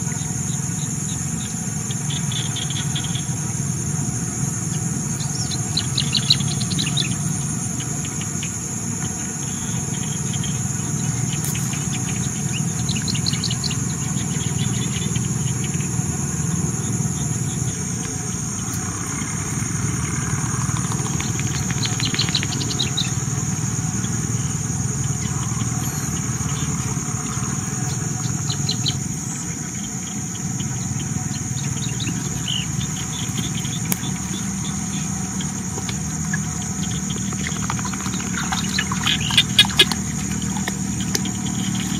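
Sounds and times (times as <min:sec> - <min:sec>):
high-pitched insect chorus: 0:00.0 - 0:41.9
low steady rumble: 0:00.0 - 0:41.9.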